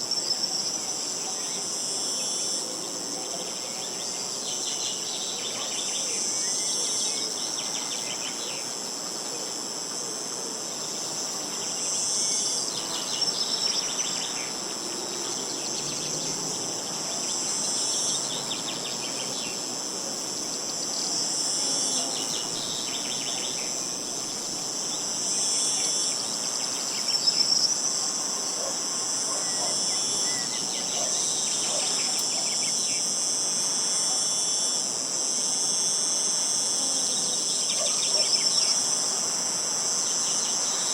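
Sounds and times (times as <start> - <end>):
short insect trills: 0.0 - 40.9
shrill insect chorus: 0.0 - 40.9.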